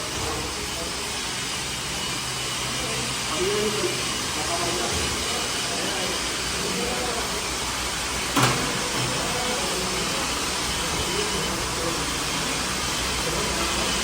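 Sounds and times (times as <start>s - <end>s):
workshop hiss and hum: 0.0s - 14.0s.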